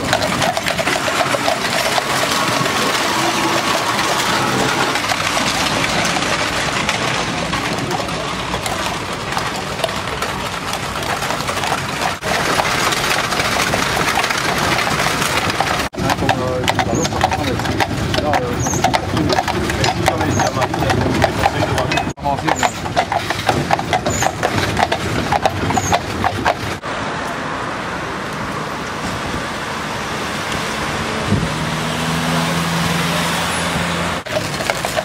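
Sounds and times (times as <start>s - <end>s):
horse-drawn tram rattling: 0.0s - 26.8s, 31.3s - 35.0s.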